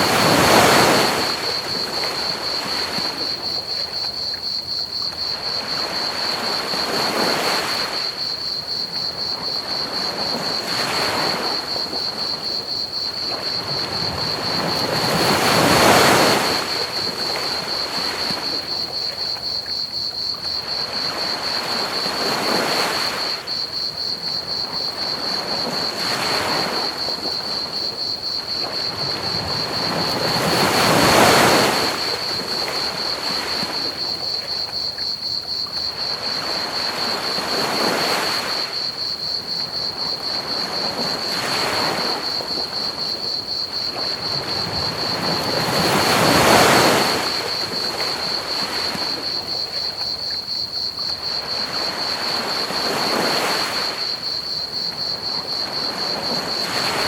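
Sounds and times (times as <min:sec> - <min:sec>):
crickets chirring: 0:00.0 - 0:57.0
ocean waves washing onto beach: 0:00.0 - 0:57.0.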